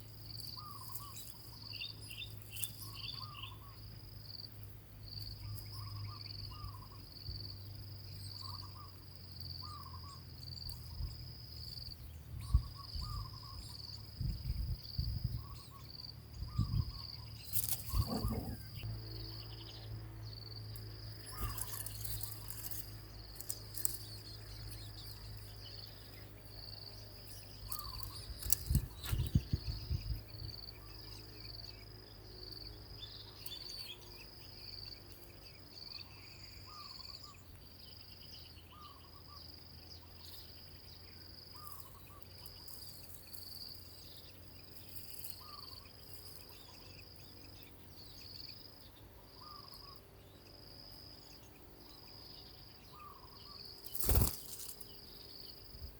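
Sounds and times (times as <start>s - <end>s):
cricket trilling: 0.0s - 55.9s
faint bird chirps: 0.0s - 55.9s.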